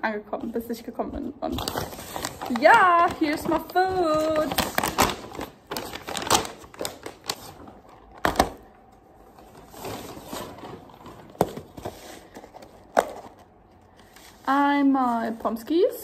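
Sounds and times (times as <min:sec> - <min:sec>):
paper bag rustling: 0:01.2 - 0:15.6.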